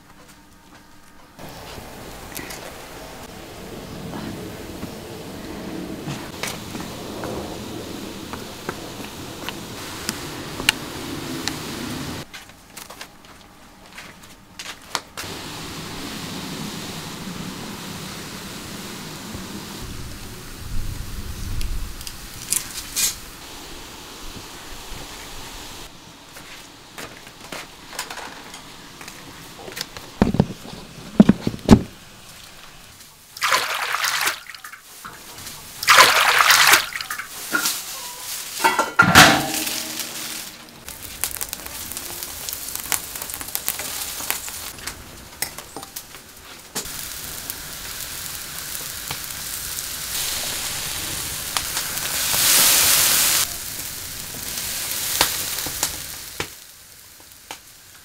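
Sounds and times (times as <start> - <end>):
wok hissing and sizzling: 1.4 - 12.3, 15.2 - 58.0.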